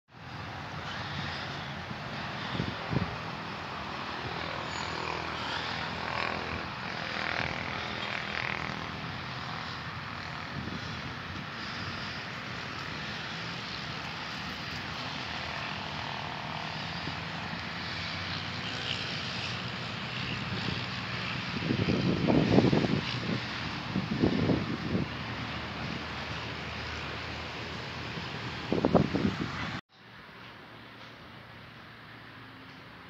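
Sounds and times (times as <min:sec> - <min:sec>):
low engine drone: 0:00.2 - 0:29.8.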